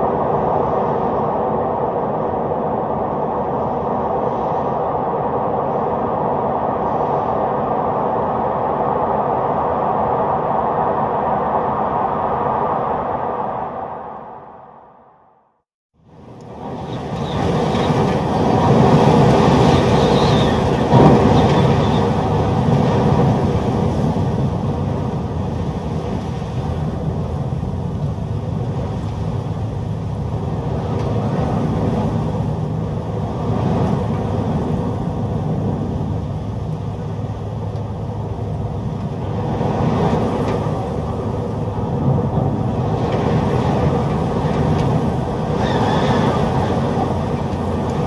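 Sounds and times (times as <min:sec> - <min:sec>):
strong storm wind: 0:00.0 - 0:15.1, 0:16.0 - 0:48.0.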